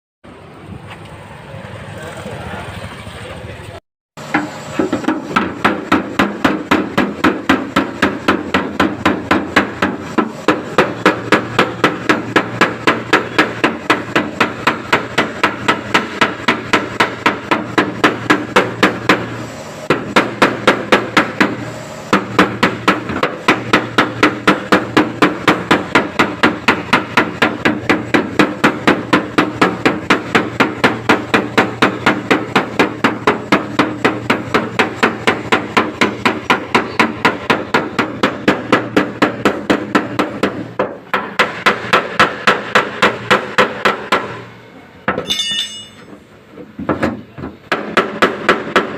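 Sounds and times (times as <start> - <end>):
hammer striking sheet metal: 4.2 - 44.4, 45.1 - 46.2.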